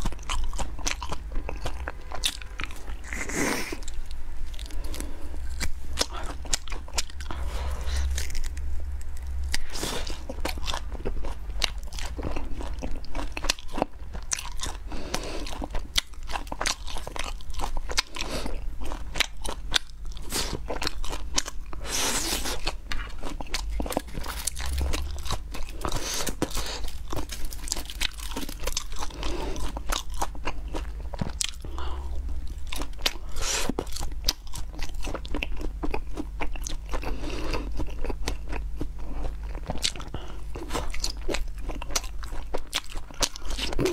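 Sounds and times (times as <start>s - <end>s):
person biting and chewing meat: 0.0s - 43.9s.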